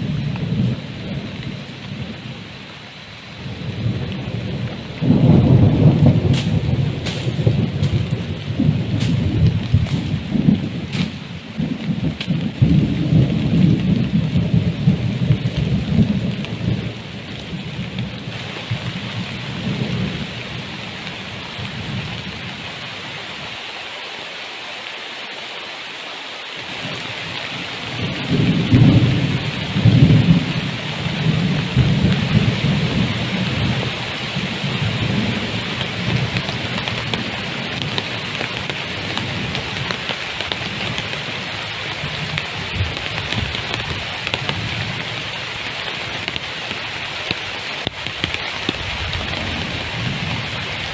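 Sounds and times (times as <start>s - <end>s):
thunder rumbling: 0.0s - 2.7s, 3.3s - 22.6s, 26.7s - 50.9s
heavy rain falling: 0.0s - 50.9s.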